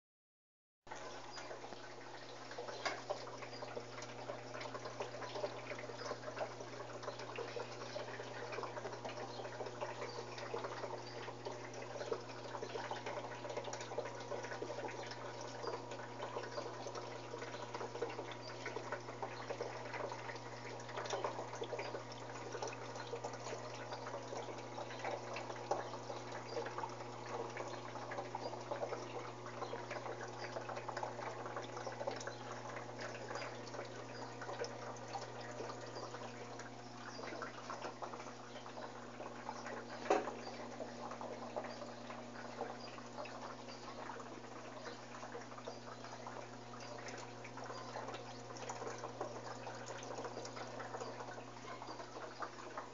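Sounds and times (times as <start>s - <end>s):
water splashing in washing machine: 0.9s - 52.9s.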